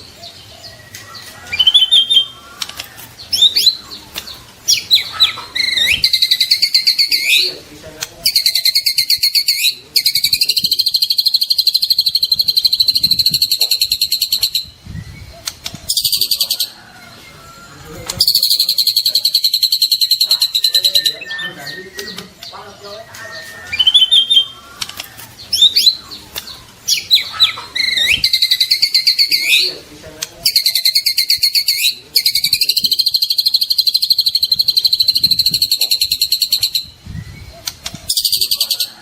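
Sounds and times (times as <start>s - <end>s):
bird singing: 0.0s - 39.0s.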